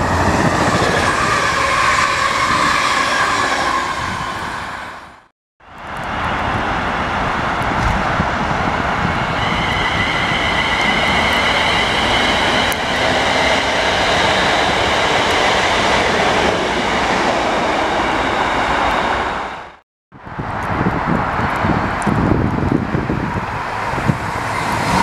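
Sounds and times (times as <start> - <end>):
train wheels rushing on rail: 0.0 - 25.0.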